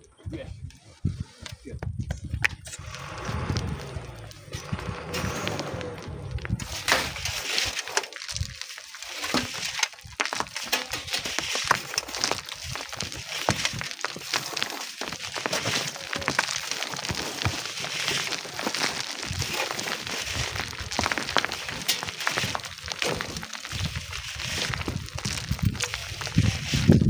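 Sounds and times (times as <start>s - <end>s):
sand and stones scraping: 2.4s - 27.0s.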